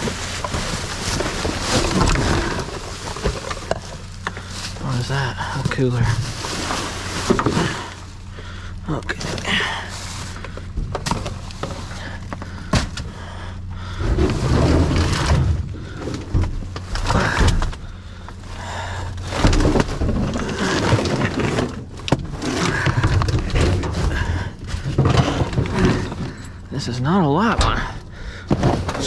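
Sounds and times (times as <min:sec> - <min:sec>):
objects clattering in a dumpster: 0:00.0 - 0:29.0
steady low hum: 0:00.0 - 0:29.0.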